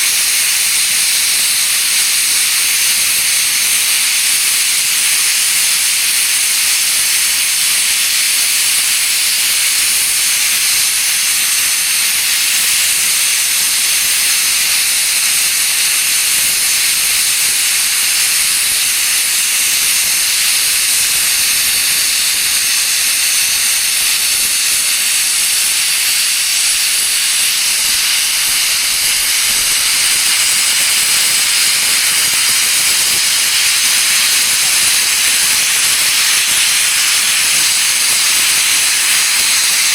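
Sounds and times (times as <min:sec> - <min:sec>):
steam locomotive hissing steam: 0:00.0 - 0:39.9.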